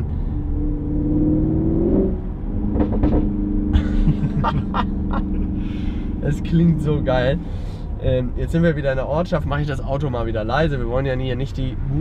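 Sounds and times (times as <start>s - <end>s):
car engine accelerating: 0.0s - 9.8s.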